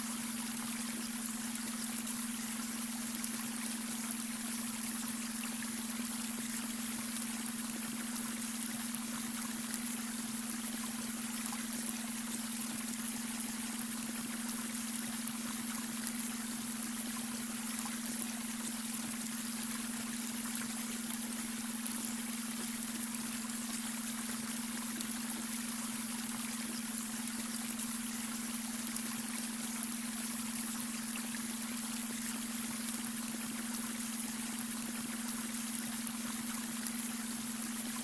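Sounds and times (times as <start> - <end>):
brook babbling: 0.0 - 38.0.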